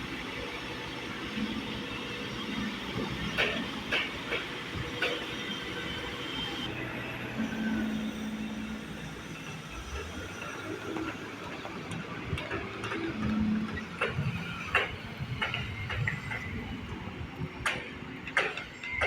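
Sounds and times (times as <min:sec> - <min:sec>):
construction machinery running: 0:00.0 - 0:19.0.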